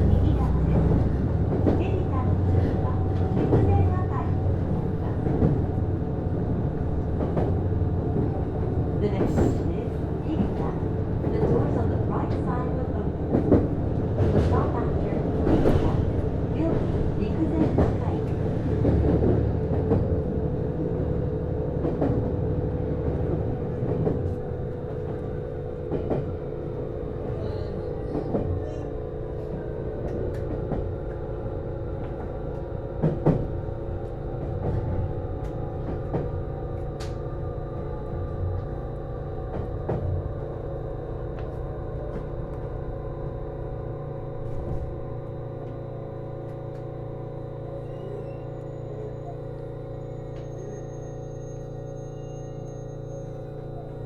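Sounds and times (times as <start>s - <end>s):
train running drone: 0.0s - 54.0s.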